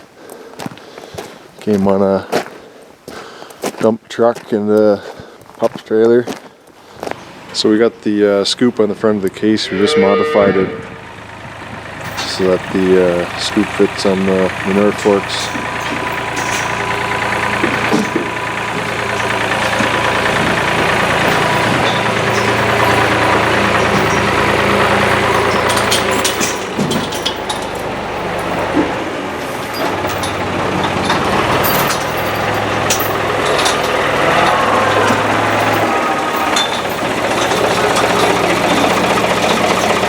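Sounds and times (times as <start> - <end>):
sharp clanks and rattles: 7.0 - 40.0
tractor engine running: 7.0 - 40.0.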